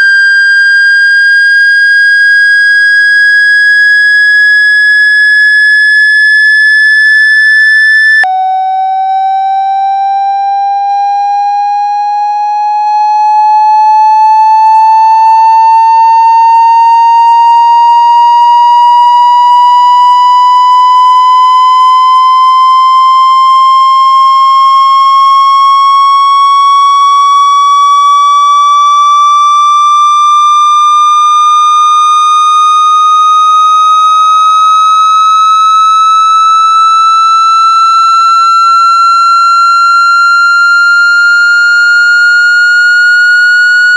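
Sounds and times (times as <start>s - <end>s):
synthetic tone from phone speaker: 0.0s - 12.2s, 13.2s - 26.9s, 27.9s - 43.9s.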